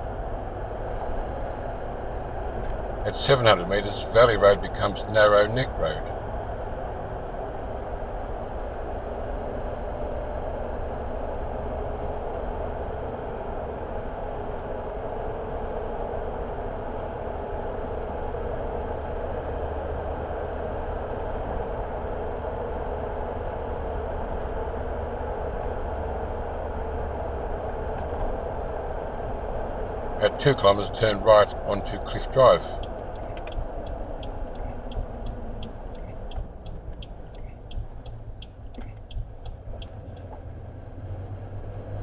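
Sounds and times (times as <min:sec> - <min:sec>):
car engine and tyre noise: 0:00.0 - 0:42.0.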